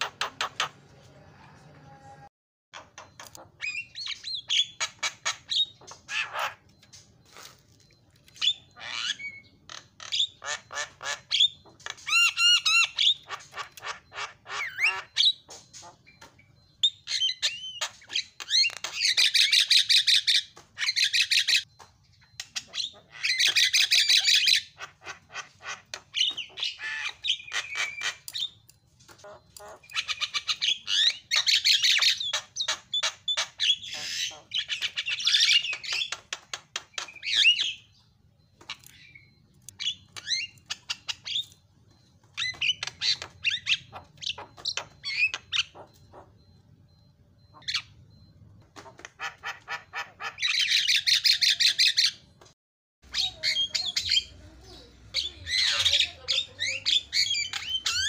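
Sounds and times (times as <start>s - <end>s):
bird singing: 2.8s - 52.4s, 53.0s - 58.0s.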